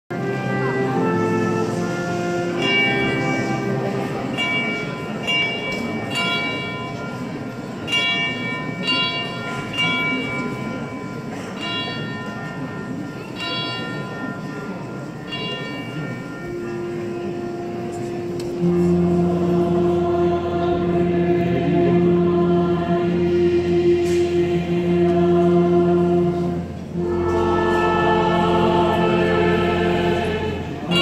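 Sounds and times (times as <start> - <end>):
church bells ringing: 0.1 - 31.0
crowd murmur: 0.1 - 31.0.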